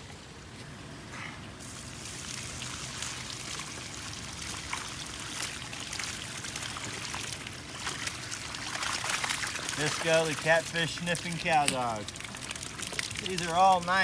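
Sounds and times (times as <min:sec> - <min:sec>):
water pouring onto grass: 0:01.6 - 0:14.0.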